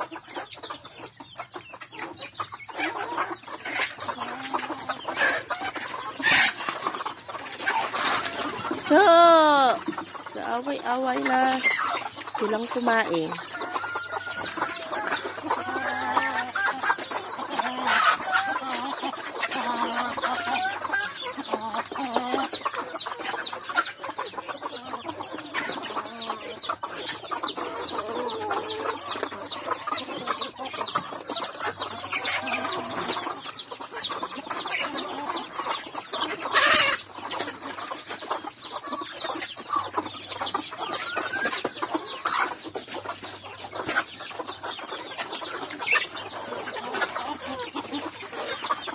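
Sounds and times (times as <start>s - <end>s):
chickens clucking and squawking: 0.0s - 48.9s.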